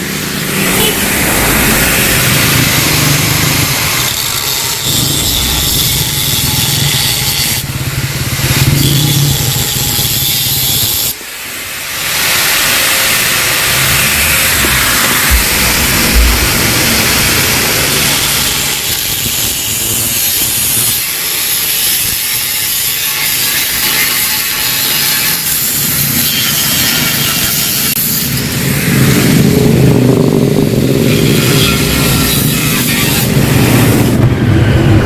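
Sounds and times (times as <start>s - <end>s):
angle grinder cutting steel: 0.0s - 29.7s, 30.6s - 35.0s.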